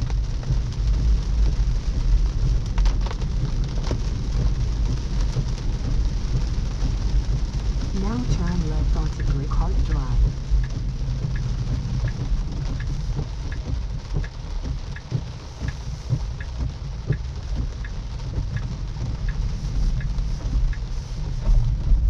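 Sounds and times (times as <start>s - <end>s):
rain on car: 0.0s - 22.0s
turn signal ticking: 0.0s - 22.0s
tyres rumbling on wet road: 0.0s - 22.0s.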